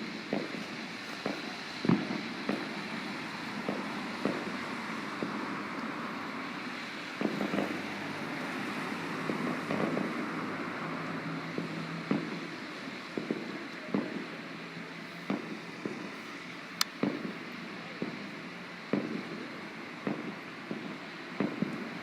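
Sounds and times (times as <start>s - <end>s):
distant fireworks bangs: 0.0s - 22.0s.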